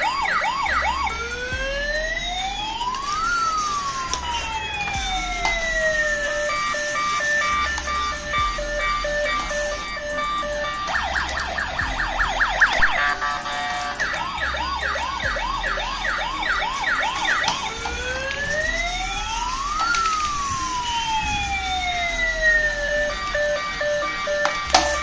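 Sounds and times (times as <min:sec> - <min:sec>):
toy electronic siren: 0:00.0 - 0:25.0.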